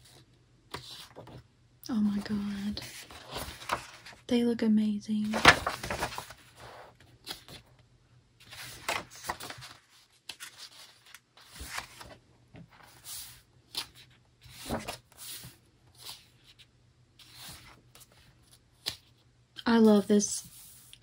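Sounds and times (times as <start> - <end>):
book pages turning: 0.0 - 1.4, 2.0 - 4.2, 5.2 - 7.7, 8.4 - 19.2.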